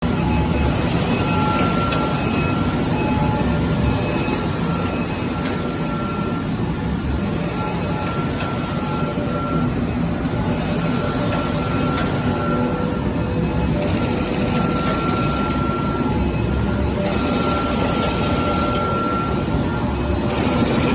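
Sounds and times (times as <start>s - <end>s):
high whine: 0.0s - 20.9s.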